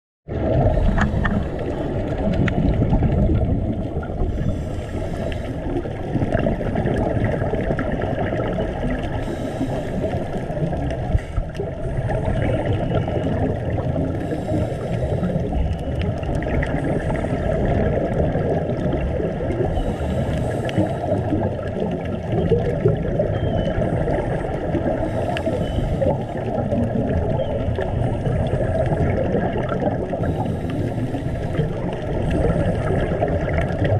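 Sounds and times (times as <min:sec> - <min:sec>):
muffled underwater rushing: 0:00.3 - 0:33.9
regulator bubbles hissing: 0:00.3 - 0:33.9.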